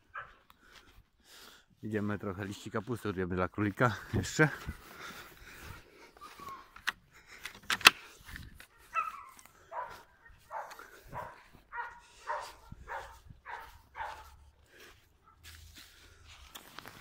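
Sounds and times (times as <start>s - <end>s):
footsteps crunching in snow: 0.1s - 7.4s, 8.0s - 17.0s.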